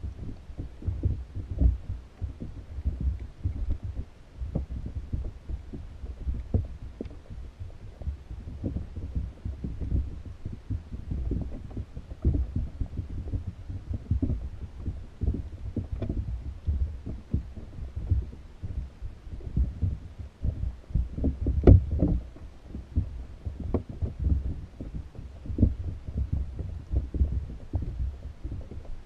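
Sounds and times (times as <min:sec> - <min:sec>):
faint clicks: 0:00.0 - 0:29.0
muffled underwater thumps: 0:00.0 - 0:29.0
rumble of moving water: 0:00.0 - 0:29.0.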